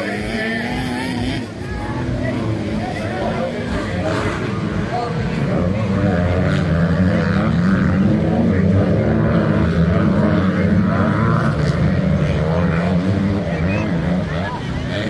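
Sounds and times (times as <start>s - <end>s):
motocross motorcycle engines: 0.0s - 15.0s.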